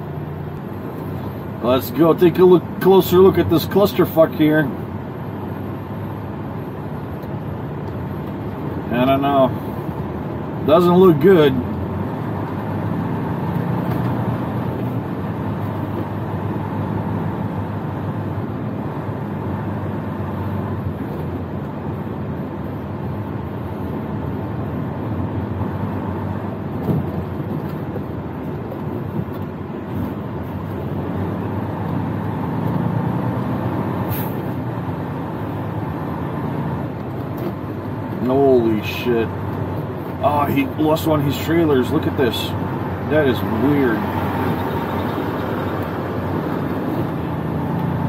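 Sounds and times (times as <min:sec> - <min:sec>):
road noise: 0:00.0 - 0:48.0
truck diesel engine from cab: 0:00.0 - 0:48.0.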